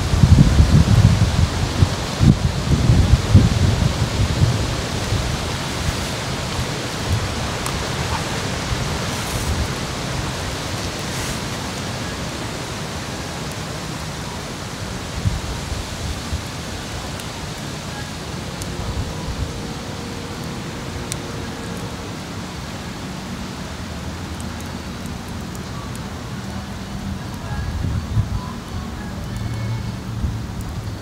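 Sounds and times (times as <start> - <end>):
steady outdoor hiss: 0.0 - 31.0.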